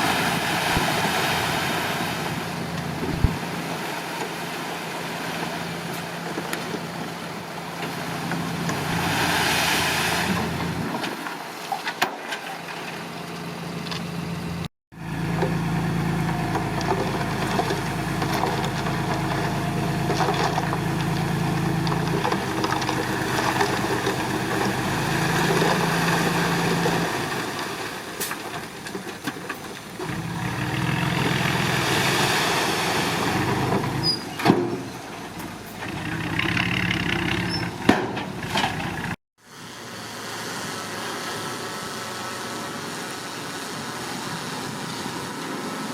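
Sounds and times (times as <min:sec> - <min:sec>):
bulldozer diesel engine working: 0:00.0 - 0:11.0, 0:13.0 - 0:45.9.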